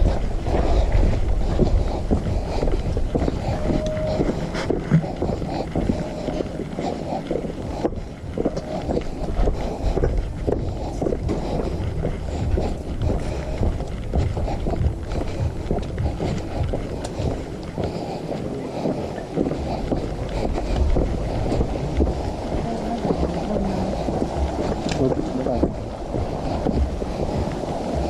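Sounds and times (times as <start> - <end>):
vehicle running: 0.0 - 28.0
wind buffeting microphone: 0.0 - 28.0.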